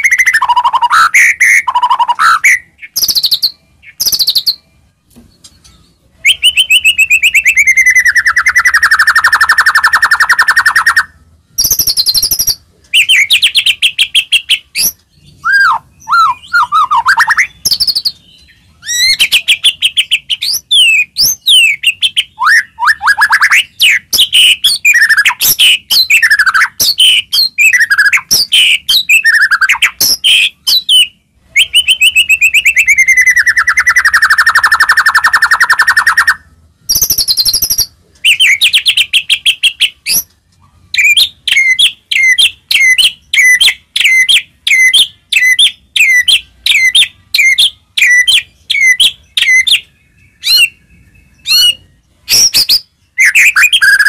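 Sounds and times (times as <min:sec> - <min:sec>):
songbird singing chirps and trills: 0:00.0 - 0:54.0.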